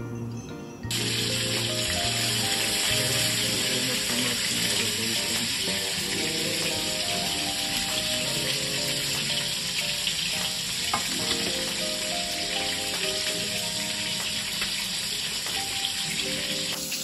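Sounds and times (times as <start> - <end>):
background music: 0.0 - 17.0
pot of water boiling: 0.9 - 17.0.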